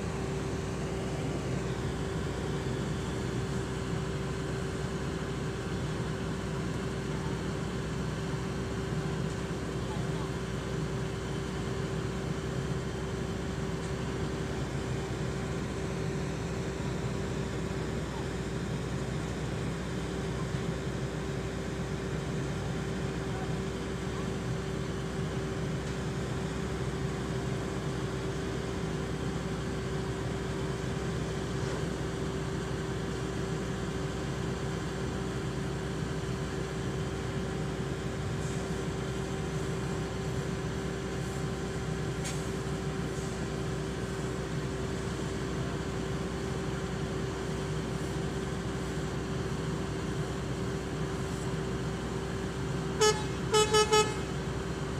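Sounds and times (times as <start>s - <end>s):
vehicle engine idling: 0.0s - 54.9s.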